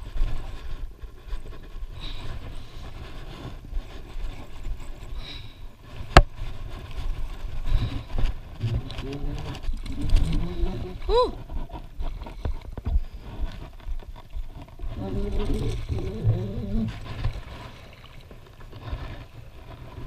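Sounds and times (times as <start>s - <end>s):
low uneven rumbling: 0.0s - 20.0s.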